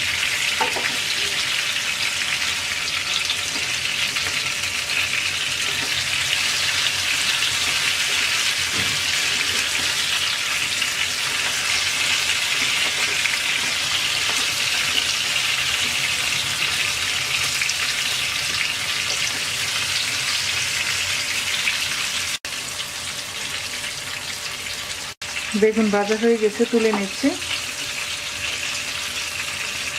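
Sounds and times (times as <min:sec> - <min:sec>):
eggplant sizzling in hot oil: 0:00.0 - 0:29.9.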